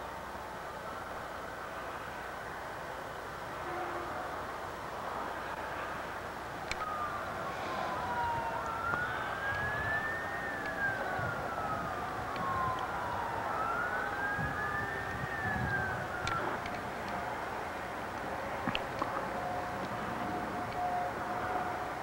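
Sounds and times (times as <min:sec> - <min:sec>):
emergency siren wailing: 0:00.0 - 0:22.0
steady background noise: 0:00.0 - 0:22.0.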